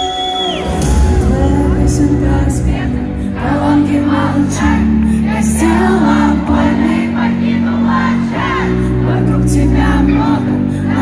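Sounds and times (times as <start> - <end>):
loud live concert music: 0.0 - 11.0
people singing and shouting: 0.0 - 11.0.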